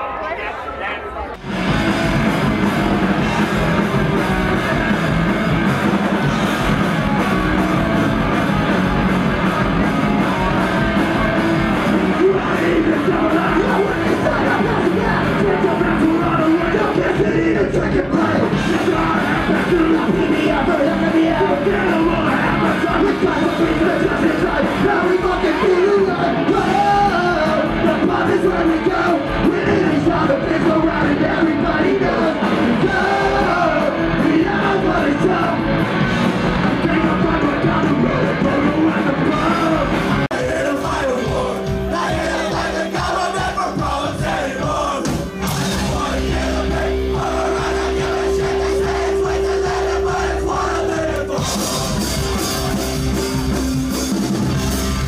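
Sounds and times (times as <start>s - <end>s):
live punk rock band playing: 1.4s - 55.0s
shouted vocals: 7.5s - 35.8s, 36.5s - 53.6s.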